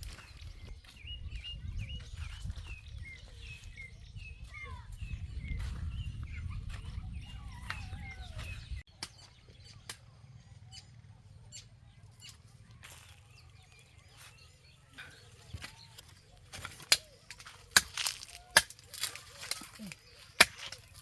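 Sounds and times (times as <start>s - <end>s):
birdlike chirps: 0.0s - 21.0s.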